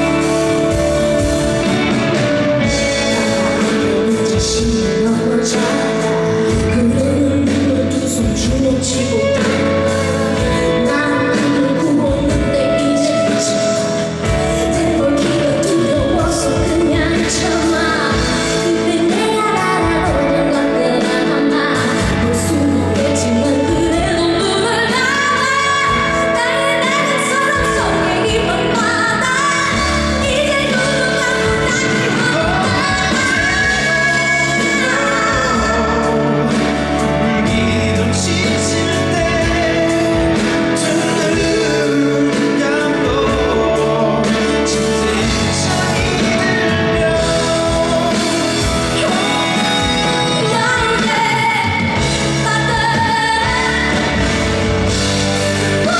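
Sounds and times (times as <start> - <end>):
band accompaniment: 0.0 - 55.9
woman singing pop song: 0.0 - 55.9.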